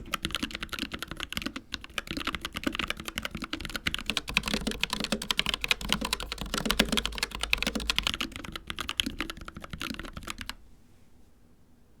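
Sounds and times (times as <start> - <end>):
fast keyboard typing: 0.0 - 10.6.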